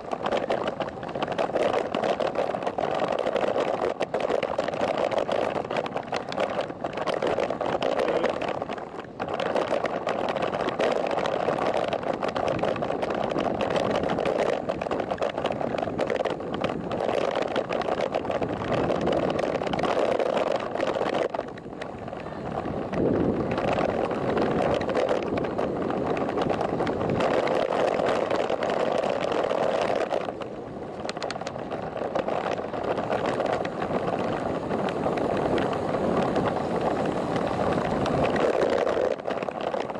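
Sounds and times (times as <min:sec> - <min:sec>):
wind and road noise rushing: 0:00.0 - 0:39.9.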